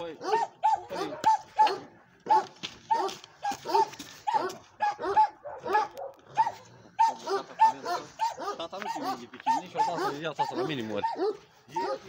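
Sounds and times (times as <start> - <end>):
dog barking: 0.2 - 12.0.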